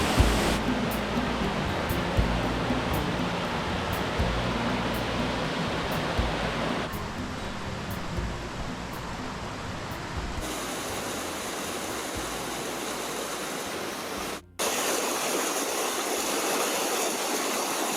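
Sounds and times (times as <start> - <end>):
waterfall rushing and splashing: 0.0 - 17.9.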